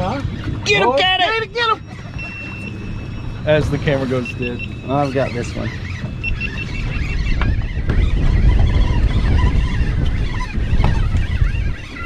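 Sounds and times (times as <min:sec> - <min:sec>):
boat motor rumbling: 0:00.0 - 0:12.0
wind buffeting microphone: 0:00.0 - 0:12.0.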